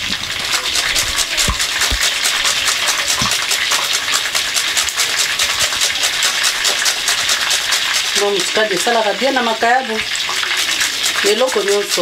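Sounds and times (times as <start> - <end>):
nutmeg grating on metal grater: 0.0 - 12.0.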